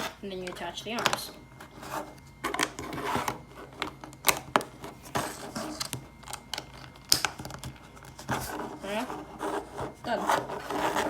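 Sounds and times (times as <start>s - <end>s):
soft plastic rubbing: 0.0s - 11.0s.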